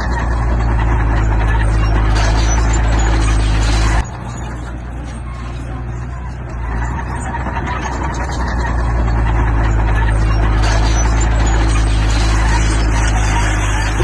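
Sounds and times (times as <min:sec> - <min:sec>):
diesel machinery engine drone: 0:00.0 - 0:14.0.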